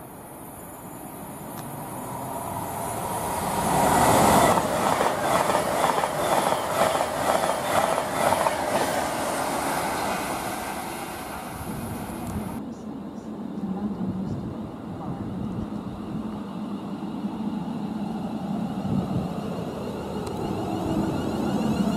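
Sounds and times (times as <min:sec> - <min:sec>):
train rushing past: 0:00.5 - 0:12.8, 0:13.6 - 0:21.9.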